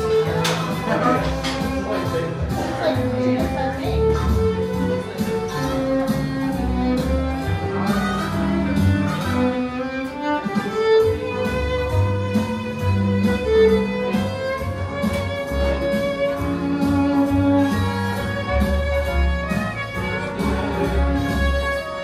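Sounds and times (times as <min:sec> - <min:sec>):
backing track with steady beat: 0:00.0 - 0:22.0
violin melody: 0:00.0 - 0:22.0.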